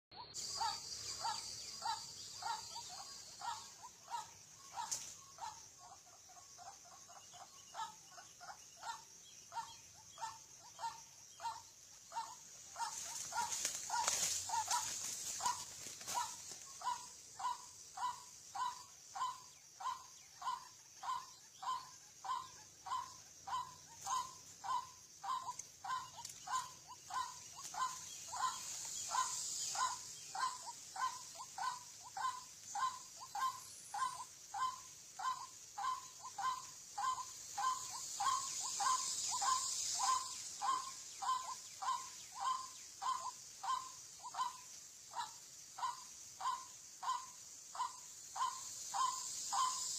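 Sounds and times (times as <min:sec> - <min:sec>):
steady high hiss: 0:09.1 - 0:21.5, 0:22.1 - 0:49.9.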